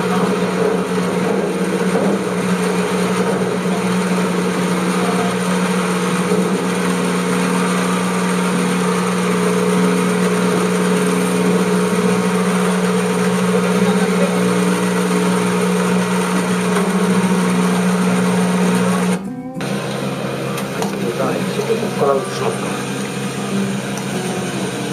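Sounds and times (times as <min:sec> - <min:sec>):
combine harvester engine hum: 0:00.0 - 0:24.9.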